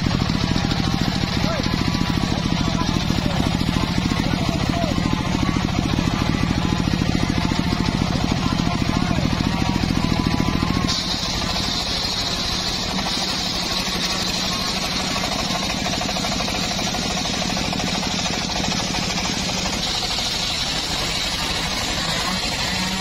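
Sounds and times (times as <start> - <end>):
circular saw cutting log: 0.0 - 23.0
engine running: 0.0 - 23.0.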